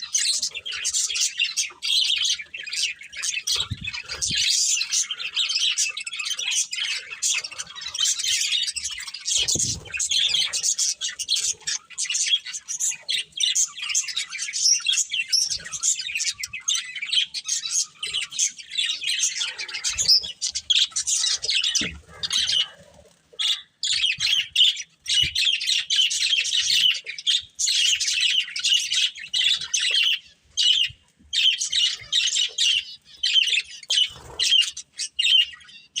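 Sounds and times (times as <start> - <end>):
budgerigars chirping and chattering: 0.0 - 36.0.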